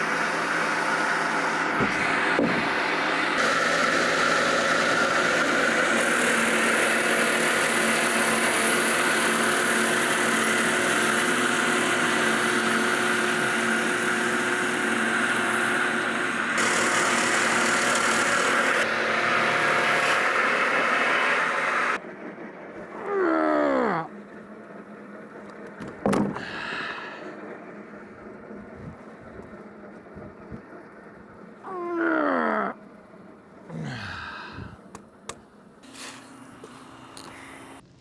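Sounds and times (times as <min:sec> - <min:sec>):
sawmill engine running: 0:00.0 - 0:23.1, 0:24.1 - 0:31.6, 0:32.8 - 0:38.0.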